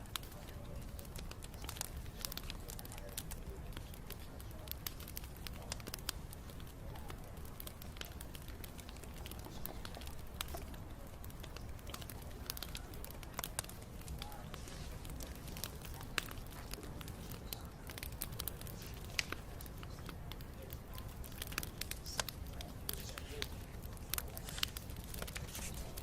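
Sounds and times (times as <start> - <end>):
low rumble of flames: 0.0 - 26.0
wood crackling and popping: 0.0 - 26.0.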